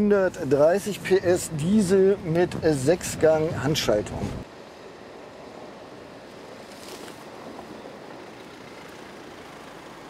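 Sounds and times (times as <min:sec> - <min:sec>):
van engine: 0:00.0 - 0:10.0.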